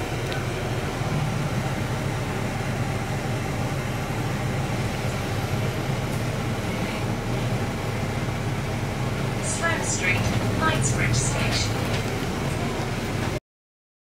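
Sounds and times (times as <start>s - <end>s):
bus engine drone: 0.0s - 13.4s
road noise: 0.0s - 13.4s.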